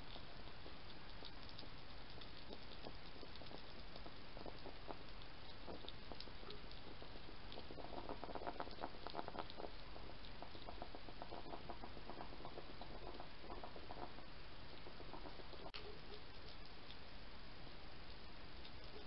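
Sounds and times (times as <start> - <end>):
hedgehog crunching dry food: 0.0 - 17.1, 18.0 - 19.0.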